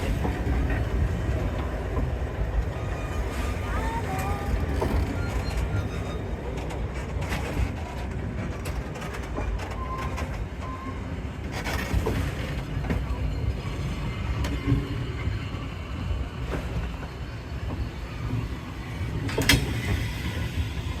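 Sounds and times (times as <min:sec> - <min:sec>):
train rumbling on track: 0:00.0 - 0:21.0.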